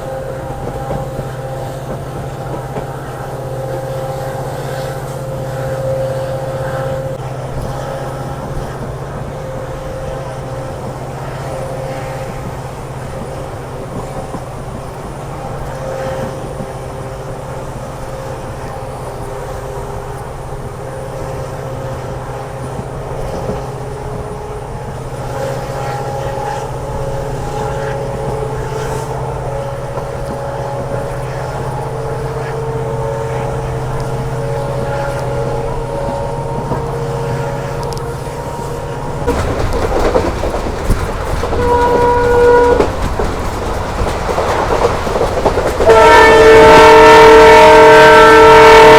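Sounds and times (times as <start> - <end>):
diesel locomotive engine drone: 0.0 - 48.9
train horn blast: 0.0 - 48.9
train wheel and rail noise: 0.0 - 48.9.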